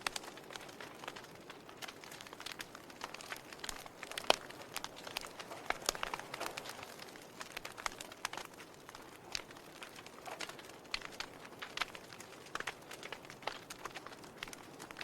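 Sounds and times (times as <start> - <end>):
log fire popping and snapping: 0.0 - 15.0
soft fire hiss: 0.0 - 15.0.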